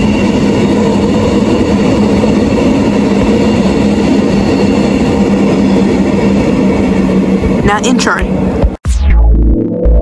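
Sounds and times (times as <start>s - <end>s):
train wheels rumbling on rails: 0.0s - 8.8s.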